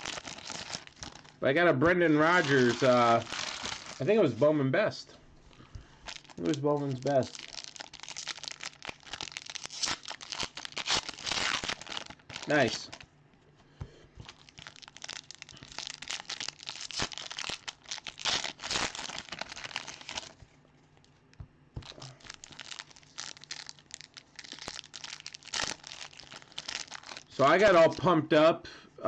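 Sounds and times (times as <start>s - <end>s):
foil wrappers crinkling and tearing: 0.0s - 4.4s, 5.5s - 13.0s, 14.2s - 20.4s, 21.8s - 28.0s.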